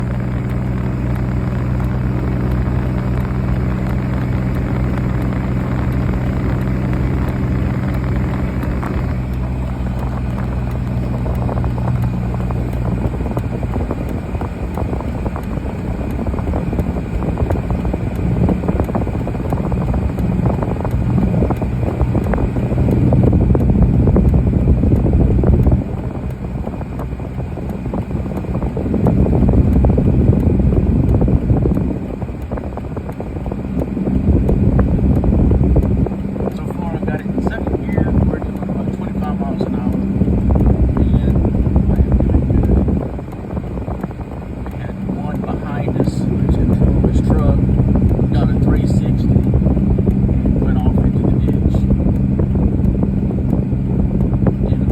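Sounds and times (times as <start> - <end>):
vehicle engine hum: 0.0 - 54.9.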